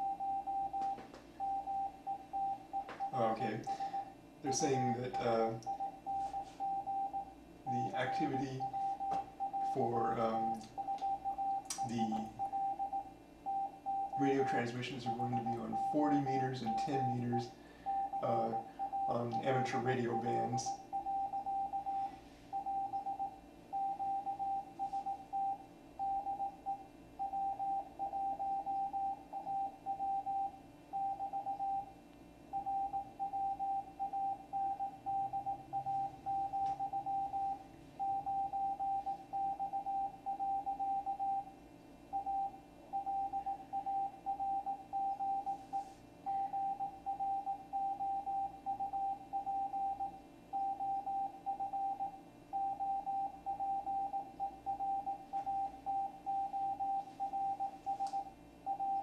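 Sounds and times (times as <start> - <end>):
morse code tone: 0.0 - 31.9, 32.5 - 41.5, 42.1 - 59.0.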